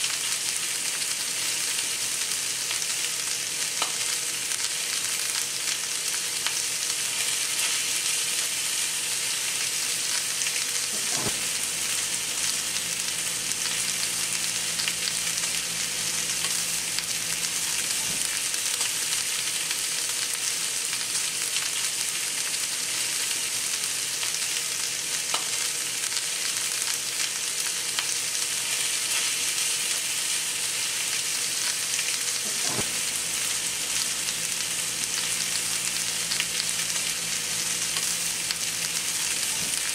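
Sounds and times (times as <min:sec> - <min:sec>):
steaks sizzling in a skillet: 0:00.0 - 0:39.9.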